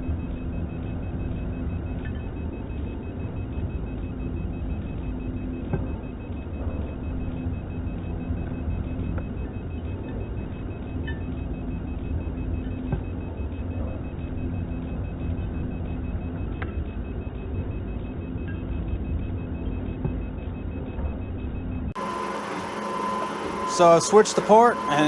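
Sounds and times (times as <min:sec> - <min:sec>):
milling machine humming: 0:01.6 - 0:25.0.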